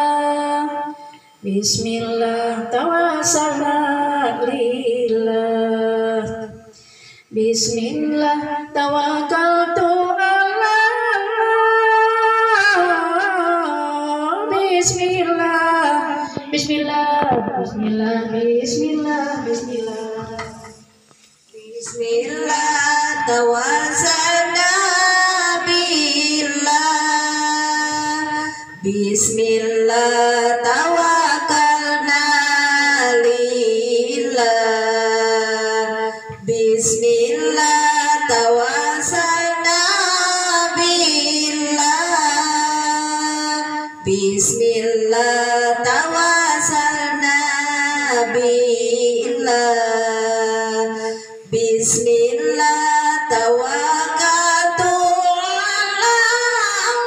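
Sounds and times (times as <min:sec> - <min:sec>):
woman singing devotional chant: 0:00.0 - 0:57.0.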